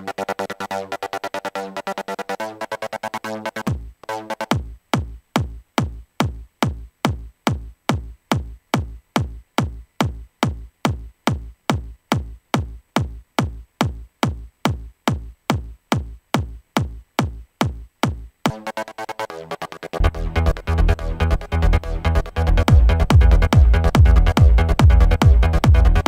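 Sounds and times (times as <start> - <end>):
electronic kick drum: 3.5 - 18.8, 20.0 - 26.0.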